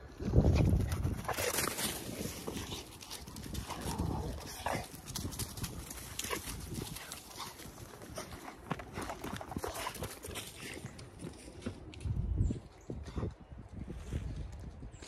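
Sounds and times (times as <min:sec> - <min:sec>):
dog paws pattering on ground: 0:00.2 - 0:15.0.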